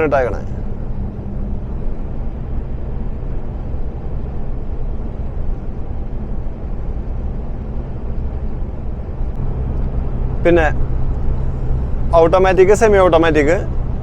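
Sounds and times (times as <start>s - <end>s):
road and tyre noise: 0.0s - 14.0s
truck diesel engine hum: 0.0s - 14.0s.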